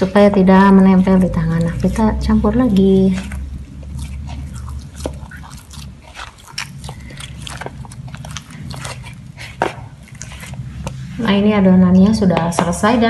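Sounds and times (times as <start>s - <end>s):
dough squelching and smacking: 0.0s - 13.0s.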